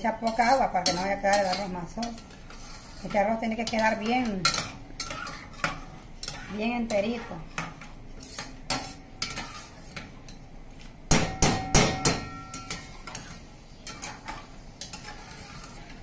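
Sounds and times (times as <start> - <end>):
metal spoon scraping pot: 0.0 - 10.4, 12.2 - 16.0.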